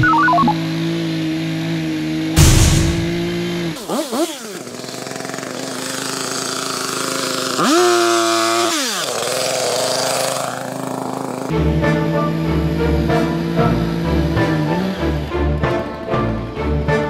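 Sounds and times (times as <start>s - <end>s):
chainsaw engine idling and revving: 0.5s - 17.0s.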